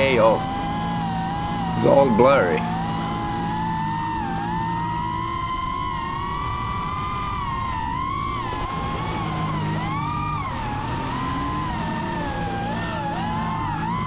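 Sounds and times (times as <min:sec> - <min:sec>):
quadcopter propellers whining: 0:00.0 - 0:14.0.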